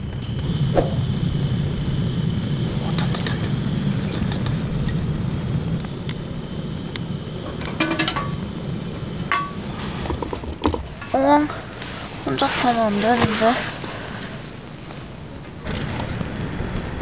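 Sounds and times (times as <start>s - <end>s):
gas burner flame rumble: 0.0s - 17.0s.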